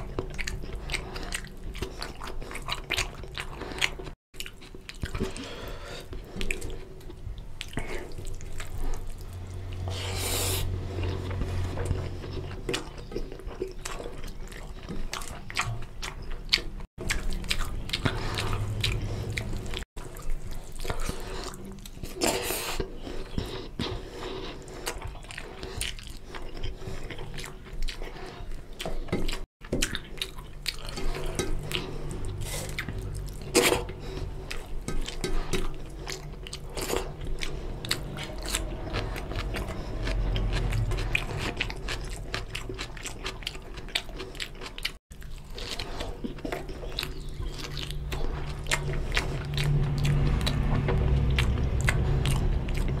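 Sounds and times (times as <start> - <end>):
person chewing and lip-smacking: 0.0 - 53.0.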